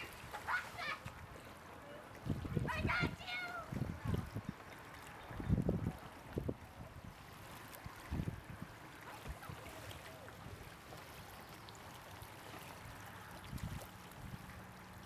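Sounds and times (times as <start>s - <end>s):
water lapping: 0.0s - 15.0s.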